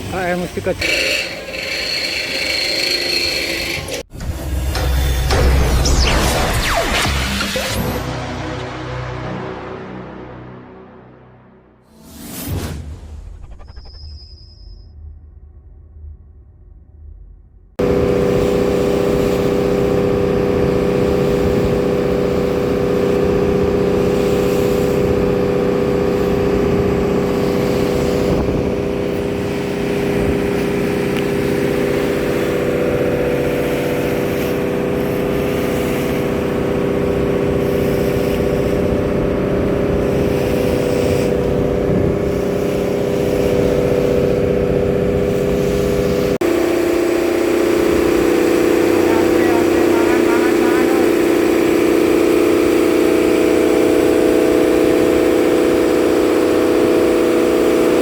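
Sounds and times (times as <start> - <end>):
boat engine running: 0.0 - 9.6, 17.8 - 58.0.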